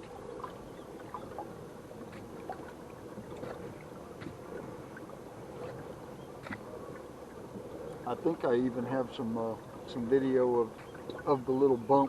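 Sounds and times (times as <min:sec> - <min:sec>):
water splashes: 0:00.0 - 0:12.0.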